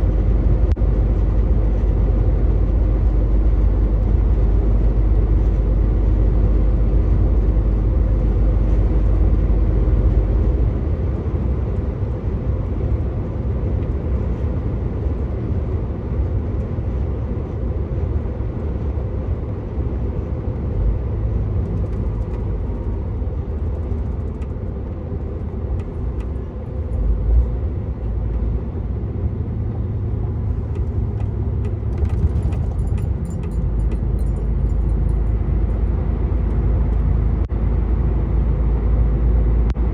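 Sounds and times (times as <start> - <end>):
truck diesel engine and tyre noise: 0.0 - 39.9.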